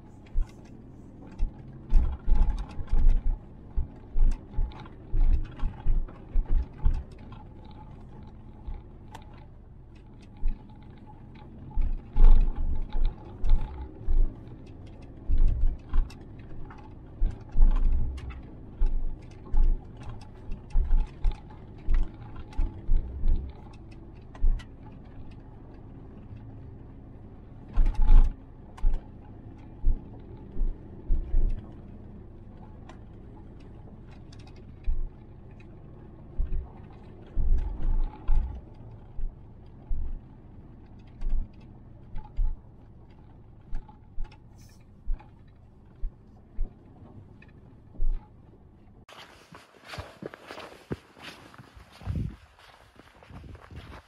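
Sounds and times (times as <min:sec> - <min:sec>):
engine and tyre drone in cabin: 0:00.0 - 0:54.0
suspension thumps and knocks: 0:01.3 - 0:25.8, 0:27.7 - 0:31.9, 0:32.5 - 0:48.3.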